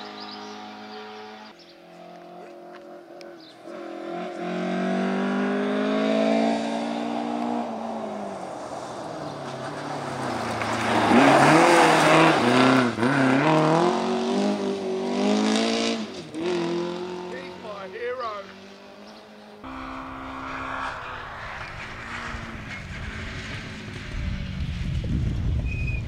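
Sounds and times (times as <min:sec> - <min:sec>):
rally car engine accelerating: 0:00.0 - 0:25.5
tyre and exhaust rush: 0:00.0 - 0:26.0.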